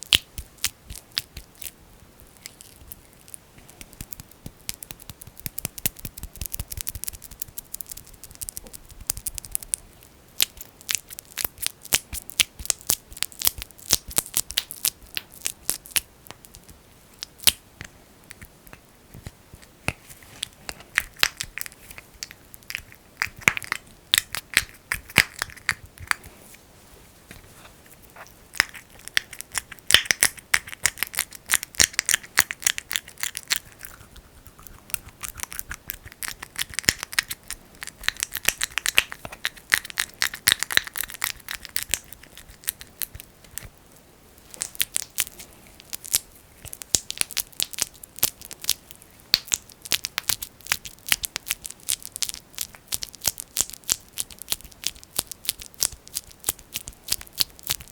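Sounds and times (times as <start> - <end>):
sticky crackles of kneaded jelly: 0.0 - 57.9.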